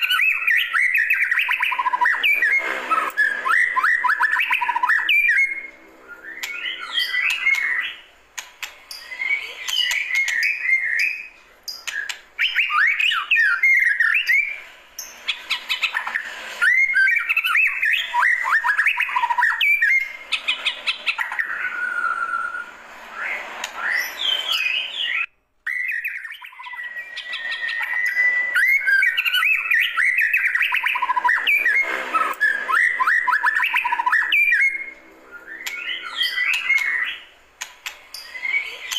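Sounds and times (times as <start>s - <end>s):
songbird singing whistles and trills: 0.0s - 38.9s.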